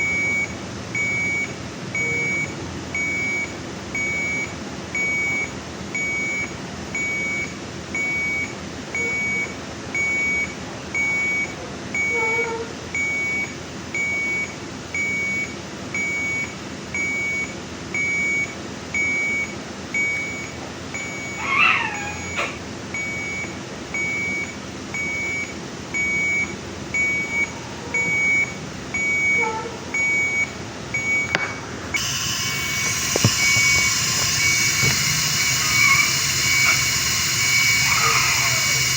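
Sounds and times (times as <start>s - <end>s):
patient monitor alarm beeping: 0.0s - 12.4s, 13.0s - 38.9s.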